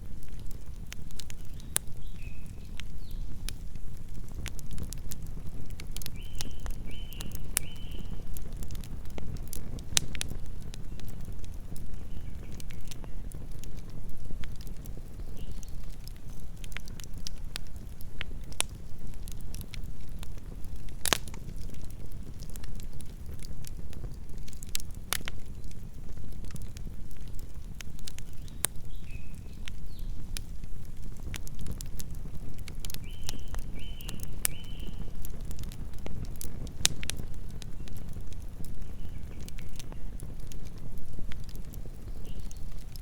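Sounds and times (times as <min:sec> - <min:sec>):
burning wood crackling and popping: 0:00.0 - 0:43.0
campfire rumble: 0:00.0 - 0:43.0.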